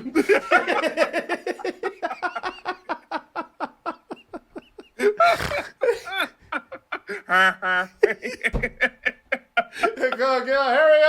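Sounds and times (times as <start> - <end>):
hearty laughter: 0.0 - 11.0.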